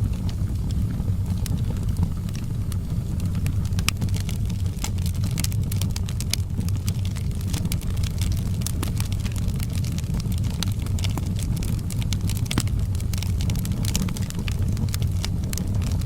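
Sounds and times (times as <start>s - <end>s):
low rumble of burning: 0.0s - 16.0s
wood fire crackling and popping: 0.0s - 16.0s.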